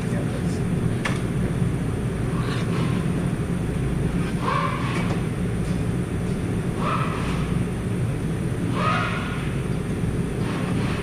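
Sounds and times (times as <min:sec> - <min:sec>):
workshop low rumble: 0:00.0 - 0:11.0.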